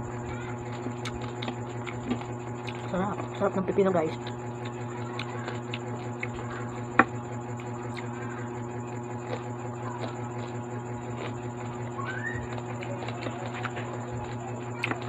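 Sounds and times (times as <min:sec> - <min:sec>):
person chewing crunchy food: 0:00.0 - 0:15.0
steady low hum: 0:00.0 - 0:15.0.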